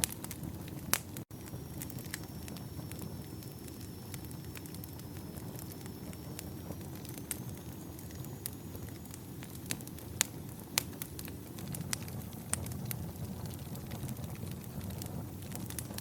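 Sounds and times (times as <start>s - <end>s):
burning logs crackling and popping: 0.0s - 16.0s
campfire flames rushing: 0.0s - 16.0s.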